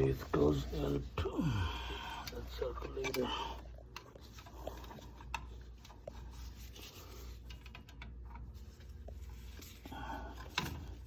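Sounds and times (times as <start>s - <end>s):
low steady hum: 0.0s - 11.0s
scratching and rubbing of wires: 0.0s - 11.0s.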